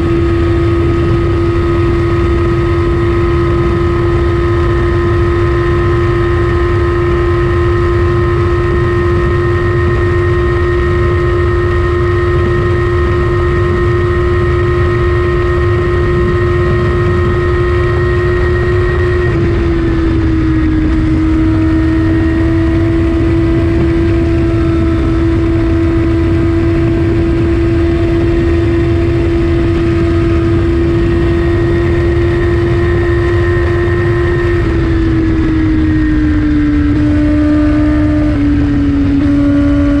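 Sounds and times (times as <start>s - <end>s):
motorcycle engine high-rpm drone: 0.0s - 40.0s
wind and road rumble: 0.0s - 40.0s.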